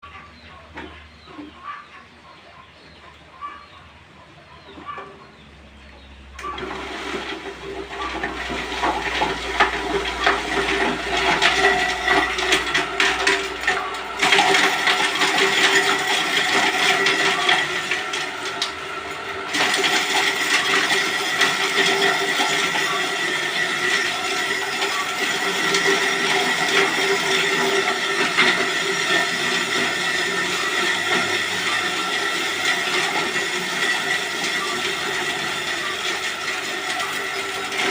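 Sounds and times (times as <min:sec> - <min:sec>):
electric chopper whining and churning: 0:06.4 - 0:37.9.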